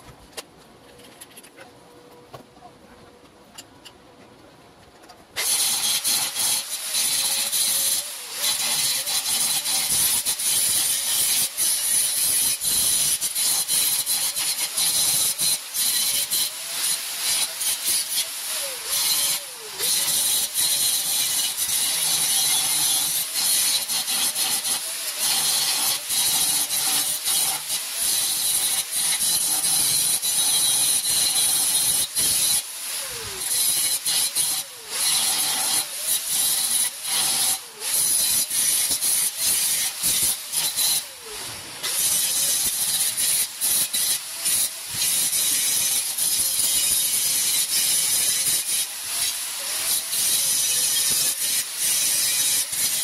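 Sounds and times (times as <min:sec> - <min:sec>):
angle grinder on steel: 0:05.4 - 0:53.0.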